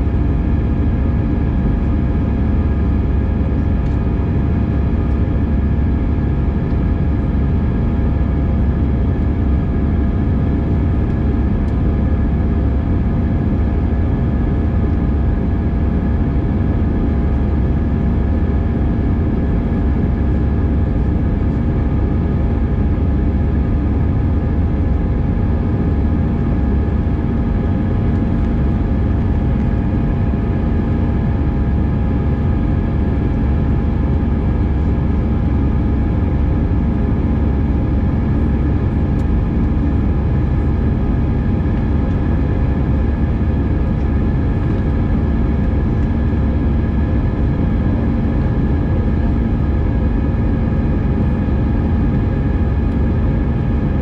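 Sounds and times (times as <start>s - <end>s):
airplane cabin engine rumble: 0.0s - 54.0s
constant hum of held tones: 0.0s - 54.0s.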